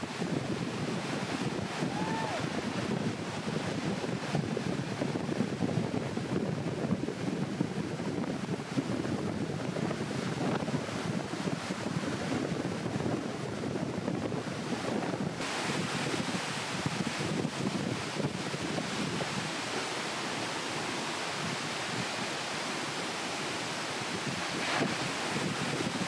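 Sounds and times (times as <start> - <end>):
ocean surf rushing: 0.0 - 5.6, 7.2 - 26.0
wind buffeting microphone: 0.0 - 26.0.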